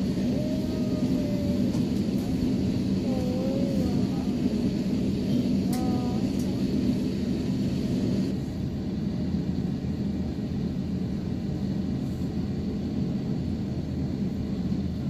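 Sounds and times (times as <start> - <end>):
aircraft cabin rumble: 0.0 - 15.0
faint high whine: 0.0 - 15.0.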